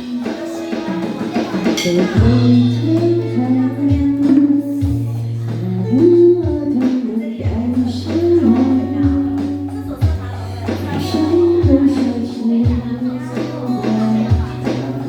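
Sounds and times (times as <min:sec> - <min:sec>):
drums: 0:00.0 - 0:15.0
strummed acoustic guitar: 0:00.0 - 0:15.0
woman singing: 0:00.0 - 0:15.0
bass line: 0:01.8 - 0:15.0.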